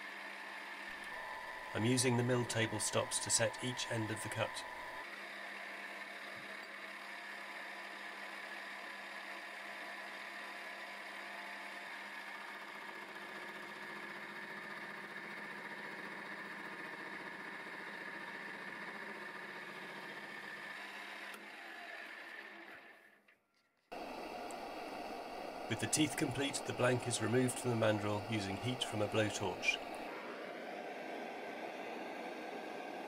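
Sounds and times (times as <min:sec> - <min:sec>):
milling machine hum: 0:00.0 - 0:22.9, 0:23.9 - 0:33.0.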